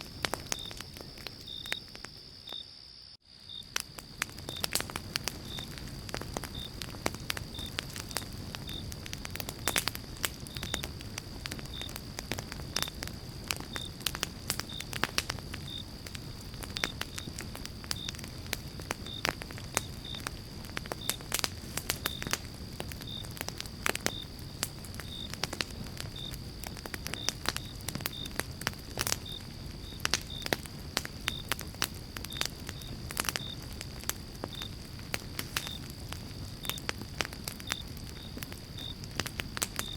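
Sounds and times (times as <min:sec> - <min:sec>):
campfire crackling and popping: 0:00.0 - 0:02.7, 0:03.5 - 0:39.9
high insect tone: 0:00.0 - 0:37.0
cricket chirping: 0:00.0 - 0:39.9.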